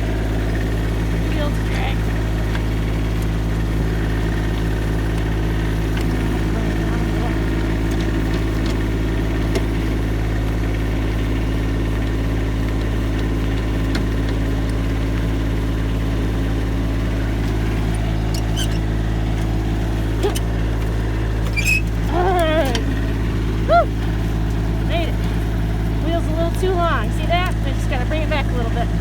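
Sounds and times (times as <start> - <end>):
tractor diesel engine humming: 0.0 - 29.0.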